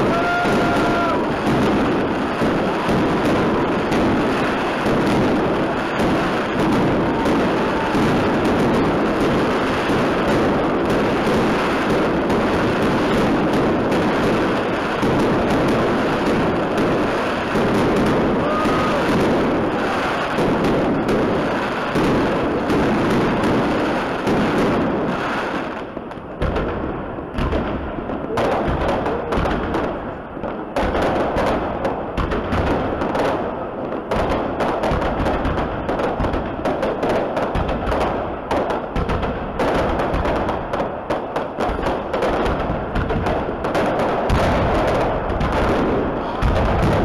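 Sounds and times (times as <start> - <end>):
fireworks crackling and banging: 0.0 - 47.0.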